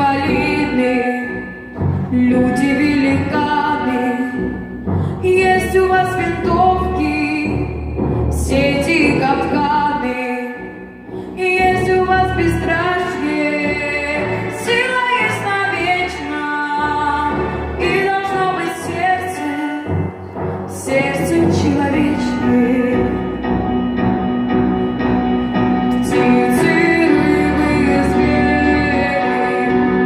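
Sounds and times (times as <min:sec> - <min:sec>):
woman singing slow song: 0:00.0 - 0:23.4, 0:25.9 - 0:30.0
backing music: 0:00.0 - 0:30.0.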